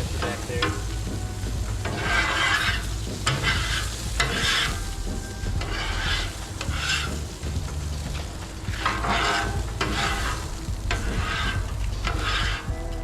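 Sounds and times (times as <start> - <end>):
metal scraper scraping griddle: 0.0 - 12.7
griddle sizzling: 0.0 - 13.0.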